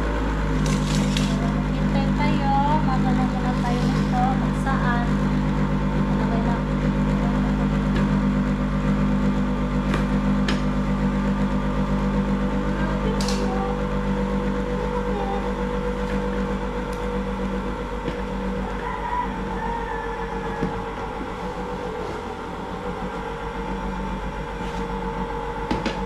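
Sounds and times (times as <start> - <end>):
stand mixer motor humming: 0.0 - 26.0.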